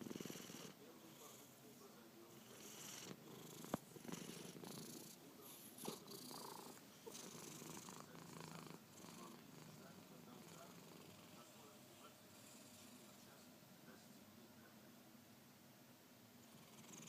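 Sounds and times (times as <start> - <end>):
cat snoring faintly: 0.0 - 14.0, 16.4 - 17.0.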